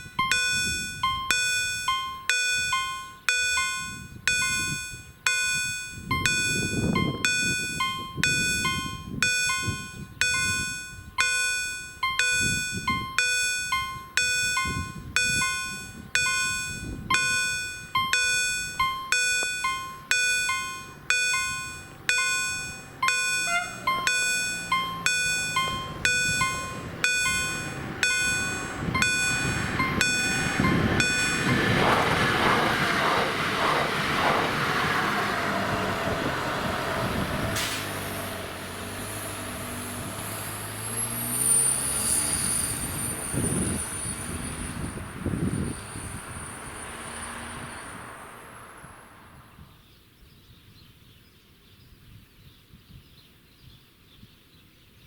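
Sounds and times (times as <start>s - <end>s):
level crossing warning bells: 0.0s - 49.6s
train passing rumble: 0.0s - 49.6s.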